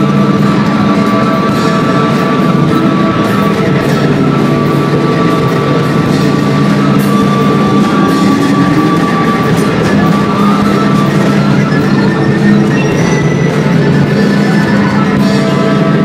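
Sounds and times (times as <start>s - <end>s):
drum kit: 0.0s - 16.0s
long droning held notes: 0.0s - 16.0s.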